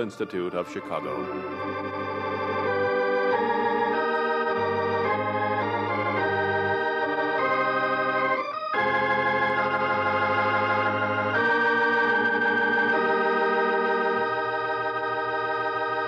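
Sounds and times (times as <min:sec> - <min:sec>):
organ playing slow chords: 0:00.0 - 0:16.0.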